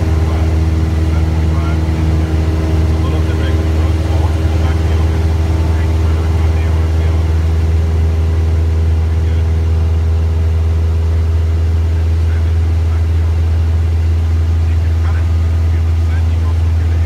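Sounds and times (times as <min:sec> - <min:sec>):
light airplane engine droning: 0:00.0 - 0:17.0.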